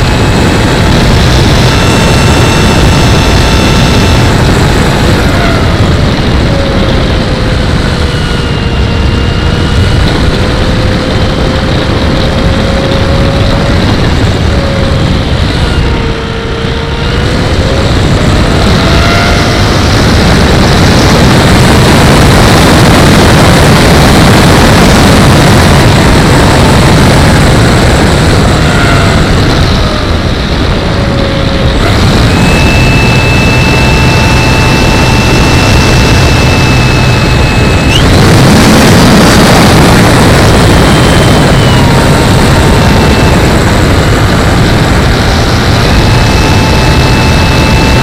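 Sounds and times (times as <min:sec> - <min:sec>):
model plane engine and propeller: 0:00.0 - 0:48.0.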